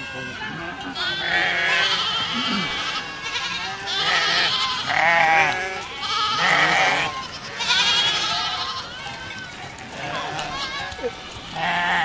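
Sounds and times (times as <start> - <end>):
goats bleating: 0.0 - 9.2, 9.8 - 12.0.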